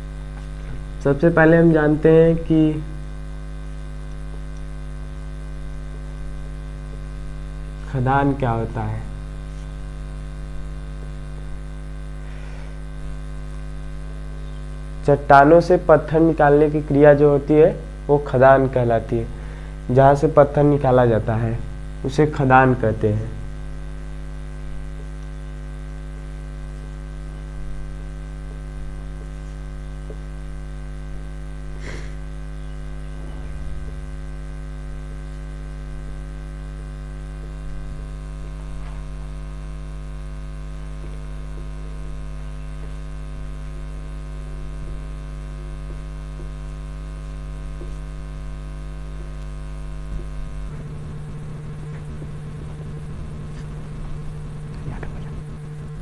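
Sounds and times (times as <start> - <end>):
electrical mains hum: 0.0 - 56.0.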